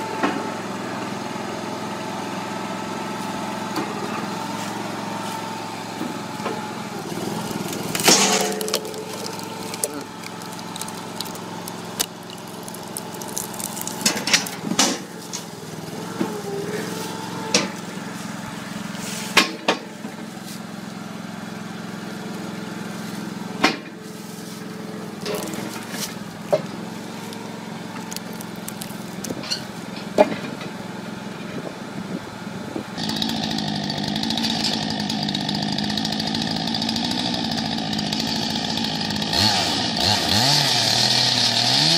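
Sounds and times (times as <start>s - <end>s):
chainsaw cutting wood: 3.8s - 30.4s, 33.0s - 41.9s.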